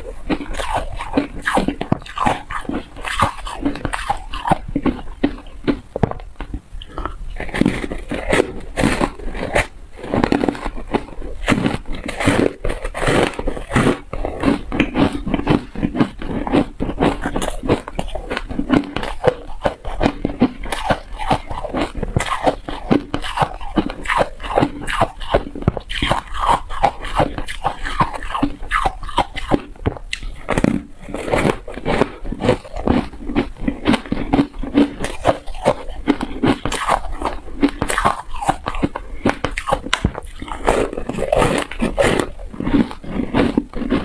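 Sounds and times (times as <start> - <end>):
ice crunching between teeth: 0.0 - 44.0.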